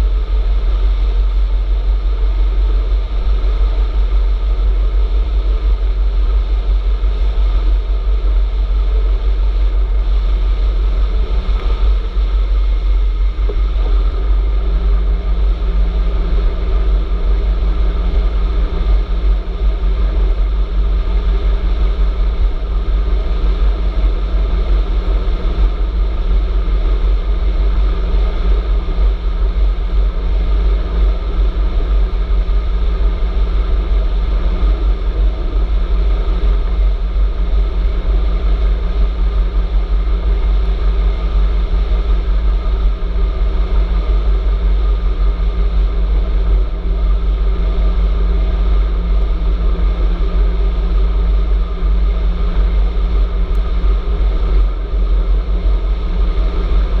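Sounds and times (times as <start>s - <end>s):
steady hum: 0.0s - 57.0s
wind rumble on microphone: 0.0s - 57.0s.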